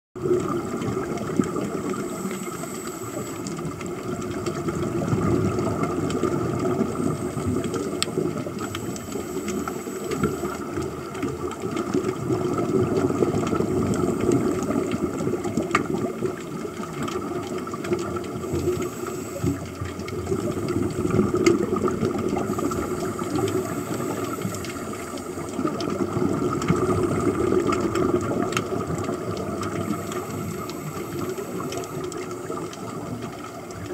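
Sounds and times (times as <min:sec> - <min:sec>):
underwater regulator bubbles: 0:00.2 - 0:33.9.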